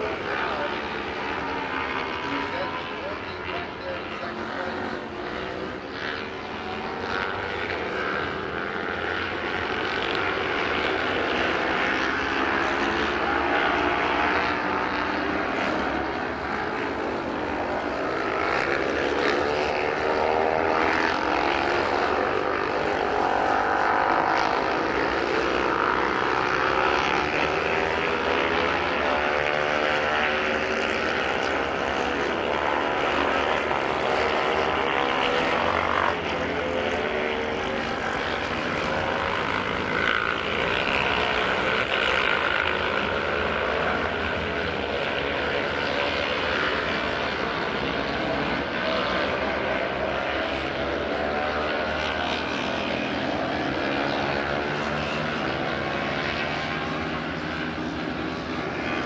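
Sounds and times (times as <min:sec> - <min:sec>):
racing motorcycle engines: 0:00.0 - 0:59.0.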